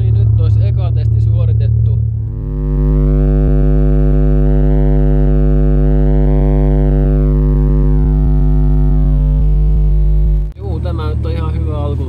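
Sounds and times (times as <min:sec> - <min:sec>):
subwoofer playing low bass note: 0:00.0 - 0:11.9.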